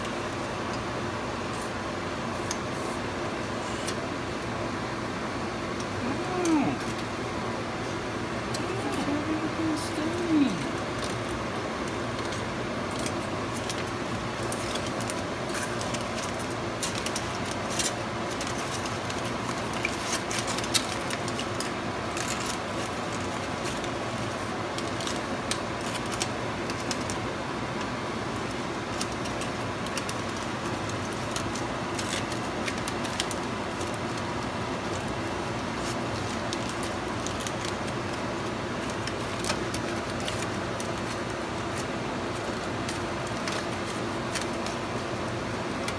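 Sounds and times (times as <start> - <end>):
fan hum: 0.0 - 45.9
aluminium foil crinkling: 5.7 - 45.9.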